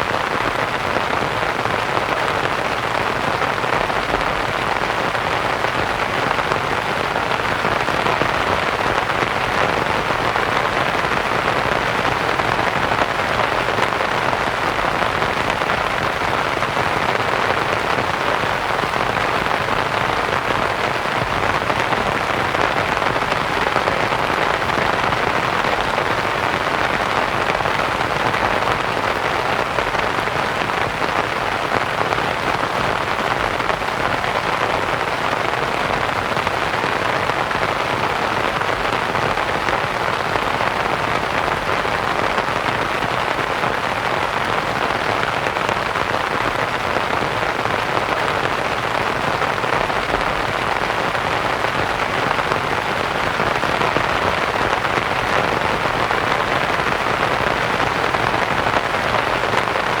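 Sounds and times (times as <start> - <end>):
rain pattering on a tent: 0.0 - 60.0
white-noise hiss: 0.0 - 60.0.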